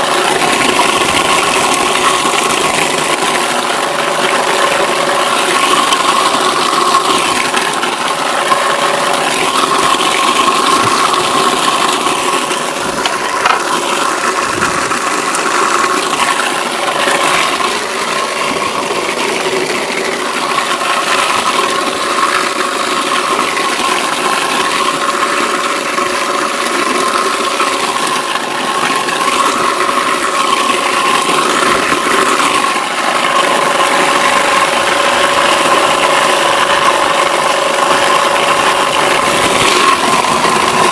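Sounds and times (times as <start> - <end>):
electric motor humming: 0.0 - 40.9.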